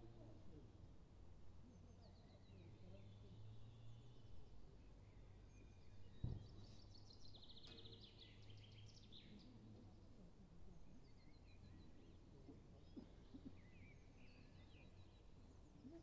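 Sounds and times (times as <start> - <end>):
songbird song with trill: 1.4 - 16.0.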